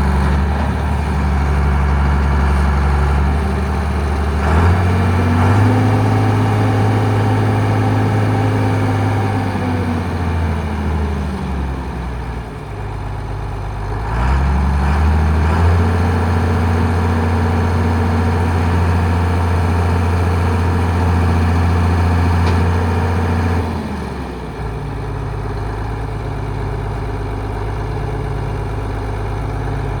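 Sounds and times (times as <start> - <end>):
tractor diesel engine revving: 0.0 - 12.2, 12.9 - 30.0.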